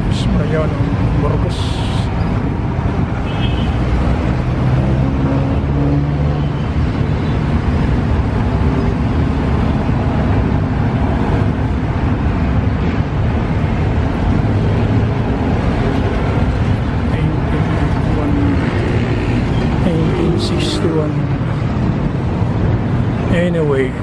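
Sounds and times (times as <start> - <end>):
low engine hum: 0.0 - 24.0
road traffic rumble: 0.0 - 24.0.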